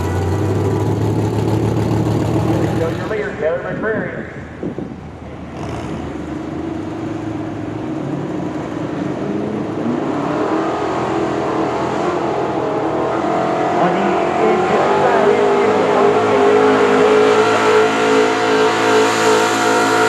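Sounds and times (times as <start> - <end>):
engine at full throttle: 0.0 - 3.4, 5.4 - 20.0.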